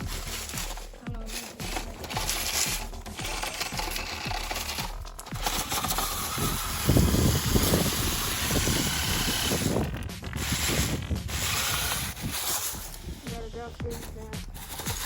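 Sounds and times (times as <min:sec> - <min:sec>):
rc car driving over rough ground: 0:00.0 - 0:15.0.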